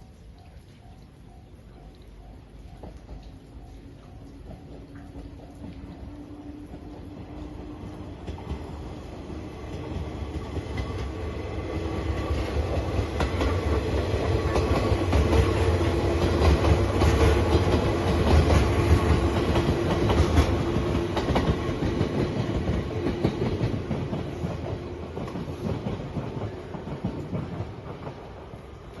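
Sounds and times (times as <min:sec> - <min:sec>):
train wheels clacking on rails: 0:01.2 - 0:29.0.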